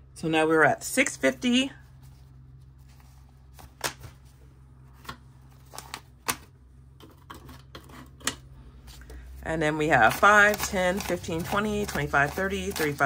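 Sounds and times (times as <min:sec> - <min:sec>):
banknotes rustling: 0:01.5 - 0:07.8, 0:08.6 - 0:13.0.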